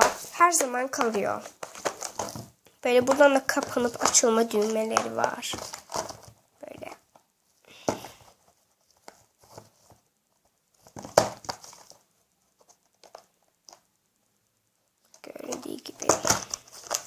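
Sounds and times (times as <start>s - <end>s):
plastic rustling: 0.0s - 13.8s, 15.0s - 17.0s.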